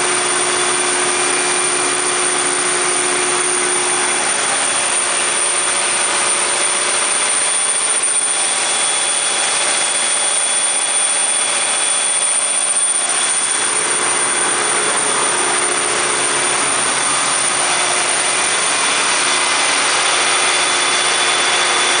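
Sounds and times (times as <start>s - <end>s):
diesel generator running: 0.0s - 22.0s.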